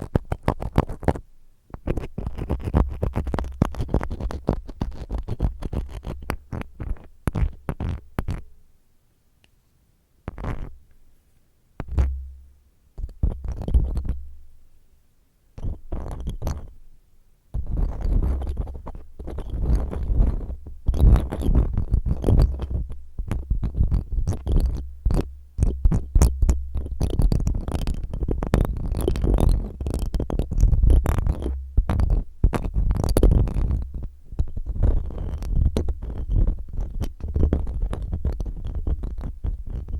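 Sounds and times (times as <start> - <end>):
ear cleaner scratching microphone: 0.0 - 8.4, 10.3 - 10.8, 11.8 - 12.3, 13.0 - 14.2, 15.6 - 16.8, 17.6 - 39.9.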